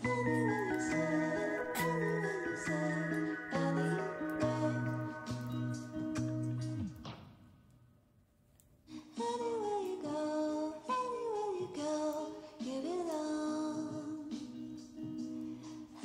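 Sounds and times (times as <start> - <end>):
woman singing with background music: 0.0 - 6.6, 8.9 - 16.0.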